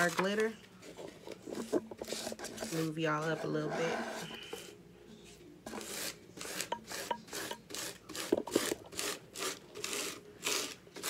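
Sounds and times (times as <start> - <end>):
paper scraping glitter on plastic bag: 0.0 - 4.7, 5.7 - 11.0.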